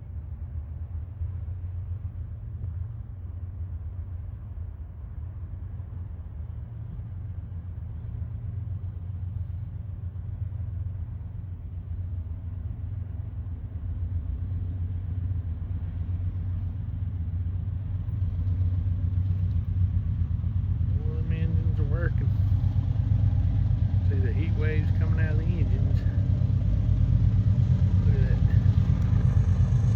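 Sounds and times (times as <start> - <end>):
diesel locomotive engine rumble: 0.0 - 29.9.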